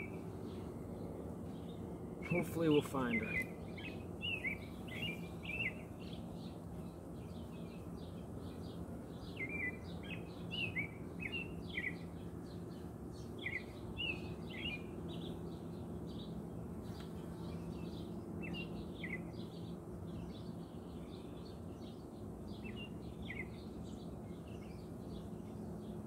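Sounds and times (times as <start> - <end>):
honey bees humming: 0.0 - 26.0
small birds chirping: 0.0 - 26.0.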